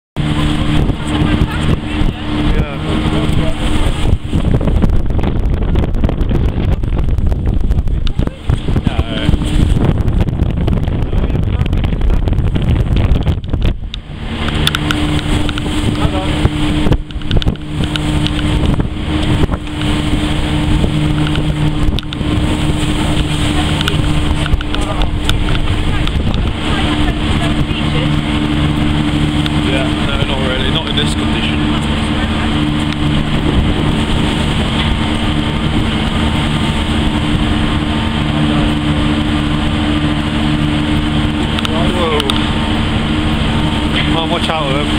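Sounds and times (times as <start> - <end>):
wind buffeting microphone: 0.2 - 44.9
ferry engines droning: 7.2 - 44.9.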